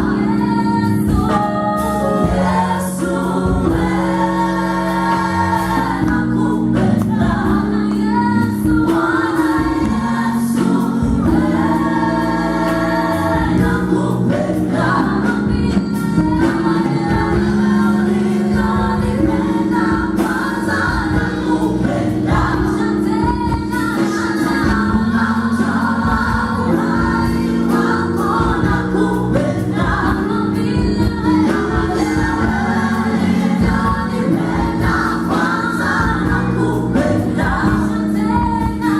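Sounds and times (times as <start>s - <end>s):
band accompaniment: 0.0s - 38.9s
gospel choir singing in harmony: 0.0s - 38.9s.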